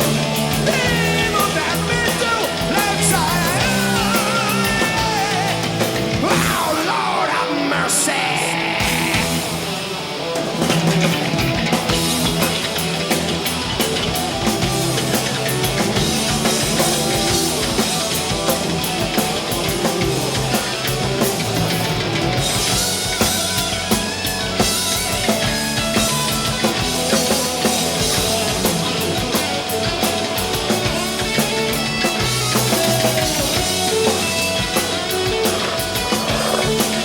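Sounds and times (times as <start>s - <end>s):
rock music: 0.0s - 37.0s.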